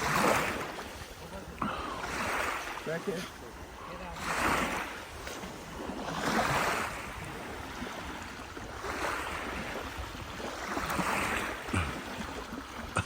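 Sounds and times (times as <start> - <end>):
lake waves washing onto shore: 0.0 - 13.0.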